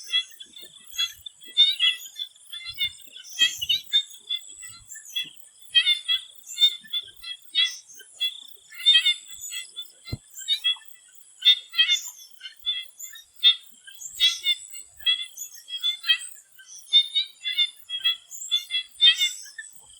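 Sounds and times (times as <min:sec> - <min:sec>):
frogs calling: 0:00.0 - 0:19.9.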